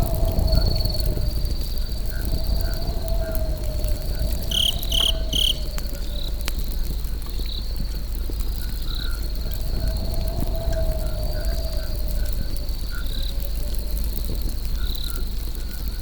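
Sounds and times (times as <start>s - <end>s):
campfire crackling and popping: 0.0s - 16.0s
crickets trilling: 0.0s - 16.0s.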